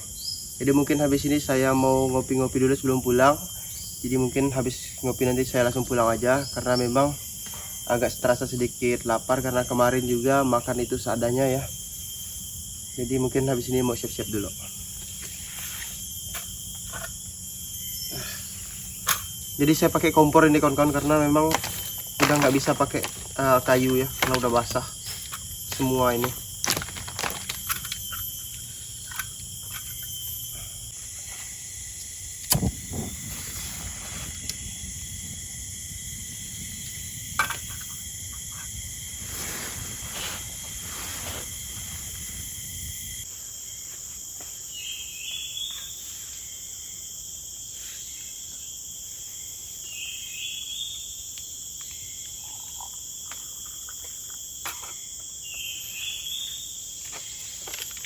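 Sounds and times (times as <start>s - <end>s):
insects calling: 0.0s - 58.0s.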